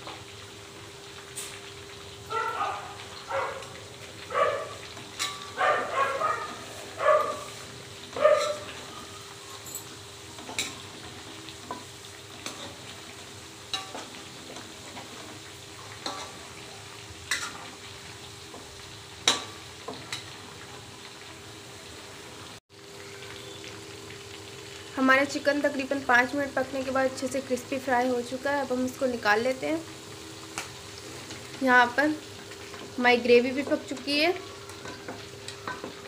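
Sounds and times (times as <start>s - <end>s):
chicken sizzling in hot oil: 0.0s - 36.0s.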